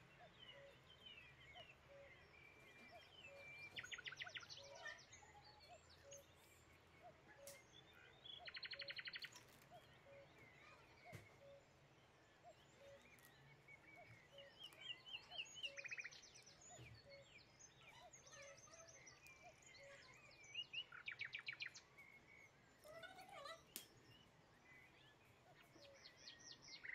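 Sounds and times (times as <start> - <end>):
bird trills and chirps: 0.0 - 26.9.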